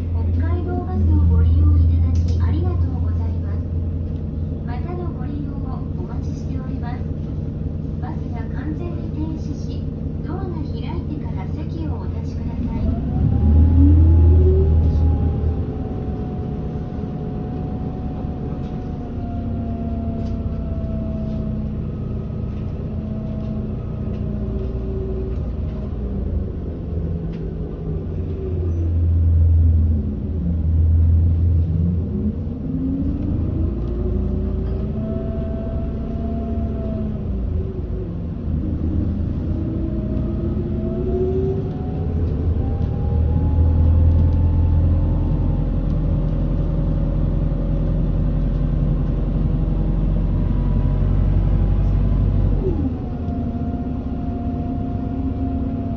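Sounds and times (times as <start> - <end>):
bus low rumble: 0.0 - 55.9
engine and drivetrain whine: 0.0 - 55.9.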